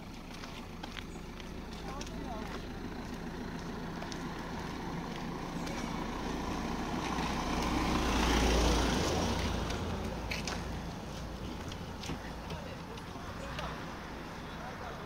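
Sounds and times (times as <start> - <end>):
van driving past: 0.0 - 15.0.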